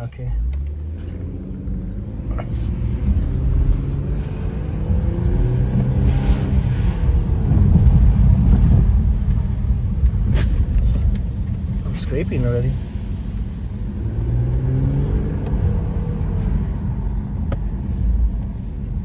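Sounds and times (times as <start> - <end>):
car engine accelerating: 0.0 - 19.0
engine and road rumble: 0.0 - 19.0.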